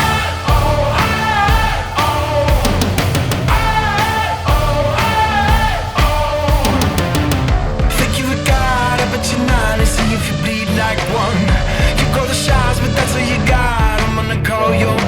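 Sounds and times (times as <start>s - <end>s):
heavy rock music: 0.0s - 15.0s.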